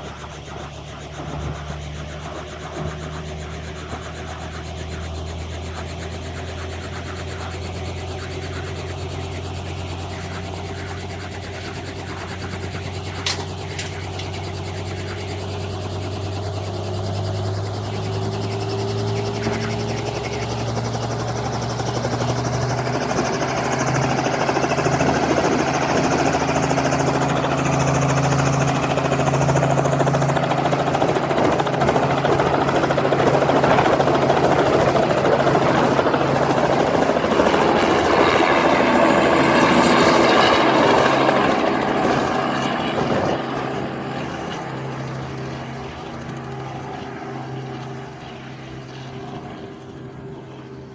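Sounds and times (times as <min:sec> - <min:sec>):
helicopter rotor and engine: 0:00.0 - 0:50.9.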